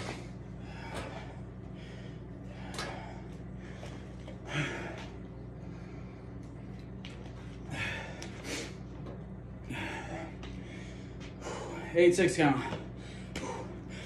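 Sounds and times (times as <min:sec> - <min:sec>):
man breathing hard: 0:00.0 - 0:06.7, 0:07.5 - 0:14.0
steady low hum: 0:00.0 - 0:14.0.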